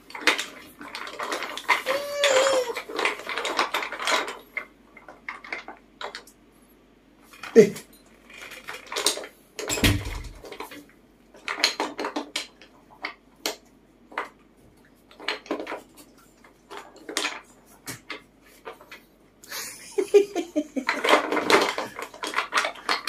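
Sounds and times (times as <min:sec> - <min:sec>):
wooden blocks clattering: 0:00.0 - 0:06.3, 0:07.2 - 0:19.0, 0:20.7 - 0:23.0.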